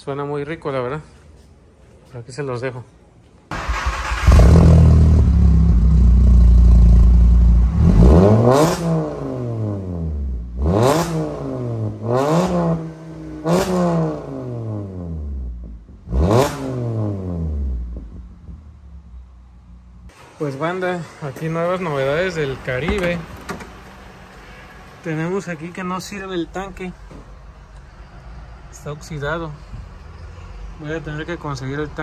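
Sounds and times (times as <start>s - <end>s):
car engine starting: 3.5s - 29.8s
car engine idling and revving: 3.5s - 32.0s.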